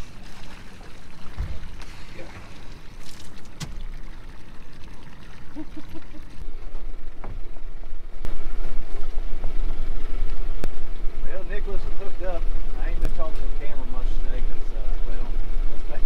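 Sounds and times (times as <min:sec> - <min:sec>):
water lapping around boat: 0:00.0 - 0:16.0.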